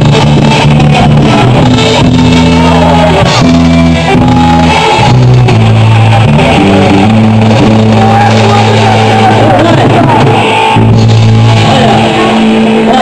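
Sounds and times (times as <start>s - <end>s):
rock band playing loudly: 0.0s - 13.0s.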